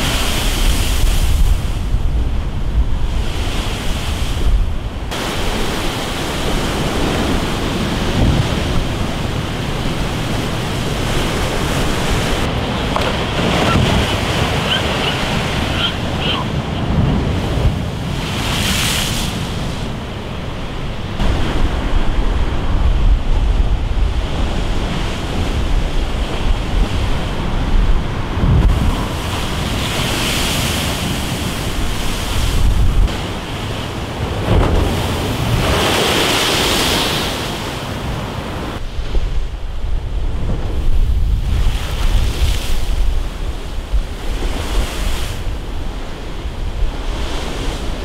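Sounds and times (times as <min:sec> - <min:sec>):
waves crashing against seawall: 0:00.0 - 0:48.0
wind buffeting microphone: 0:00.0 - 0:48.0.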